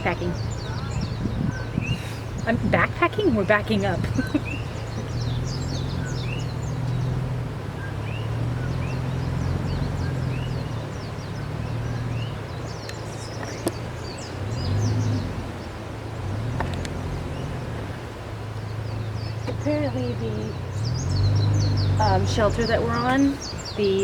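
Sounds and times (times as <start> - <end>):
animals chirping: 0.0 - 24.0
vehicle engine rumbling: 0.0 - 24.0.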